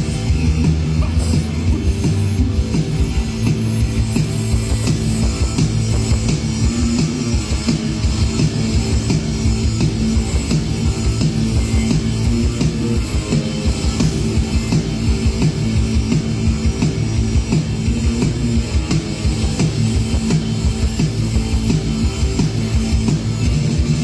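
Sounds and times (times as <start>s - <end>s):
rock band playing loud: 0.0s - 24.0s.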